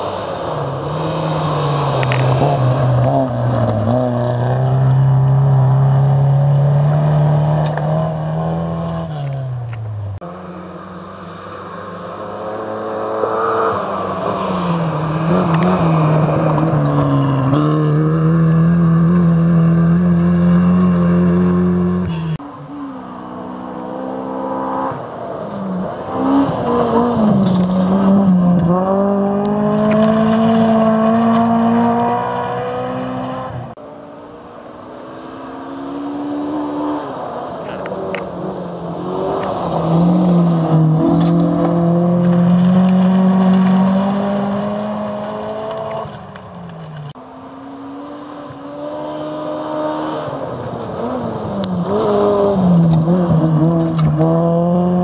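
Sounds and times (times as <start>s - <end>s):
rally car engines revving past: 0.0s - 55.0s.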